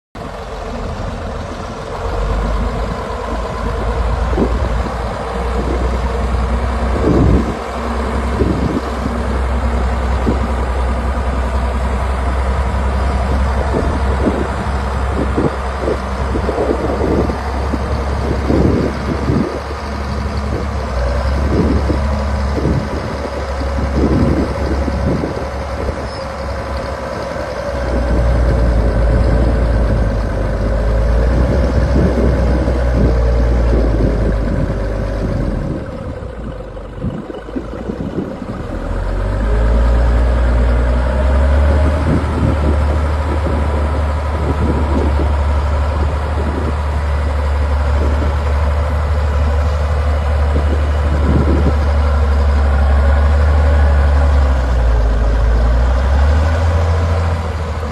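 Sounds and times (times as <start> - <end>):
diesel engine droning: 0.2 - 57.9.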